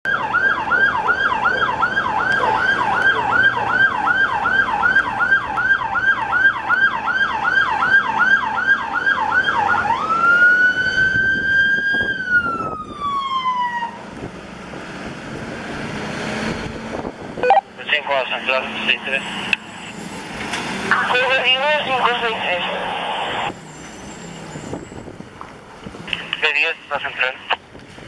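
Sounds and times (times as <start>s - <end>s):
fire engine siren: 0.1s - 25.2s
truck engine and road noise: 0.1s - 28.0s.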